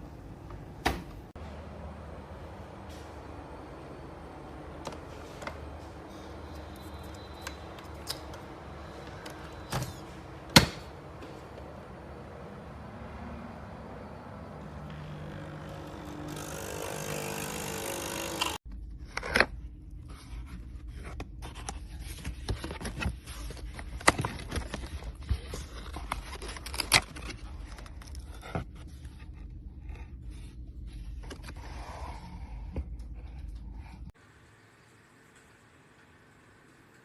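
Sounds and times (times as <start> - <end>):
noisy hum: 0.0 - 37.0.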